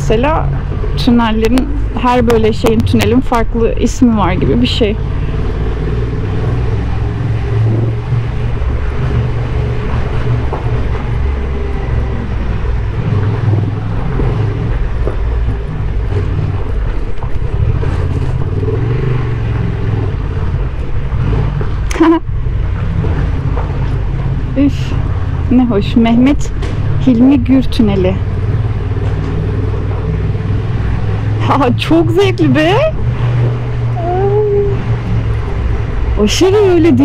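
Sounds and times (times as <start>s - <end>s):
motorcycle engine in a tunnel: 0.0s - 37.0s.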